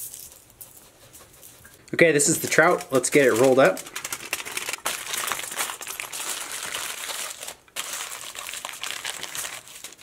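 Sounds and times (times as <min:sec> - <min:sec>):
aluminium foil crinkling: 0:01.4 - 0:10.0.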